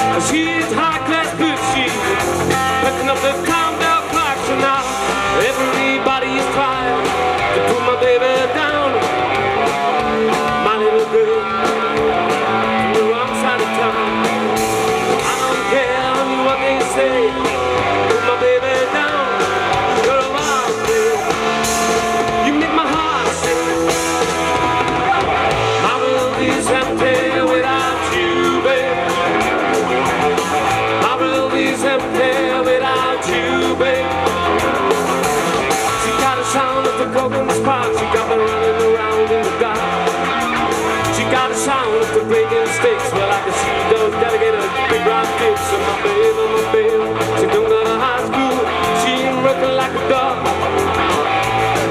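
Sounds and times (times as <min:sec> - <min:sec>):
bass guitar: 0:00.0 - 0:51.9
drums: 0:00.0 - 0:51.9
electric guitar: 0:00.0 - 0:51.9
keyboard: 0:00.0 - 0:51.9.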